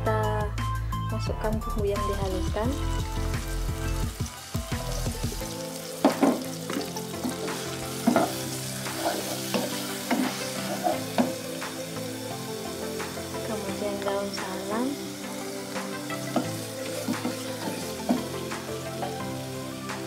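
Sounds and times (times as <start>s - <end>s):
spice paste sizzling in oil: 1.7s - 20.0s.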